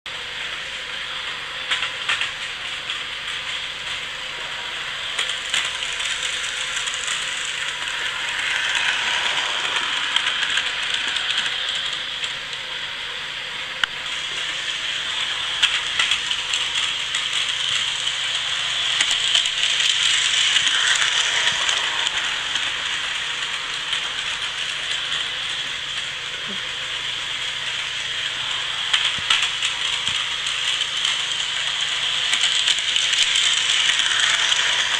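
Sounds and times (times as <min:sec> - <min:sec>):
model train whirring rattle: 0:00.1 - 0:34.9.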